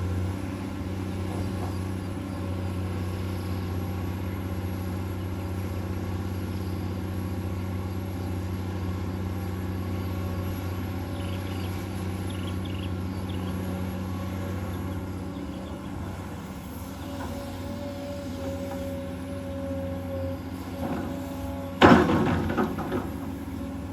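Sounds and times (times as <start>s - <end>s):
excavator diesel engine droning: 0.0s - 23.9s.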